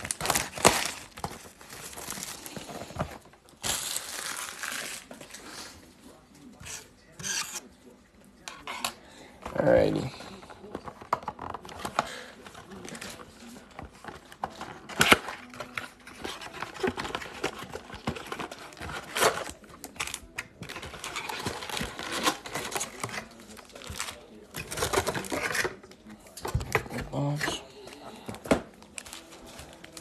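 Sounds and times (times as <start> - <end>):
packs rustling with clicks and taps: 0.0 - 5.4, 10.2 - 27.1, 27.8 - 30.0.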